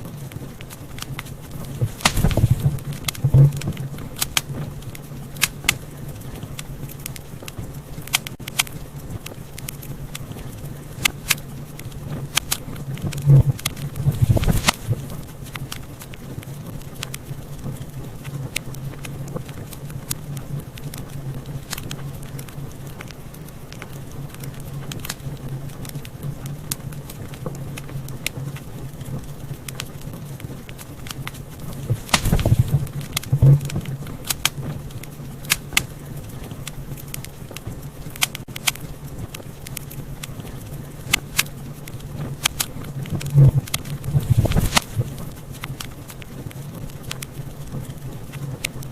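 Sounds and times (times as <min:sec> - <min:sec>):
fire crackling in a fireplace: 0:00.0 - 0:48.9.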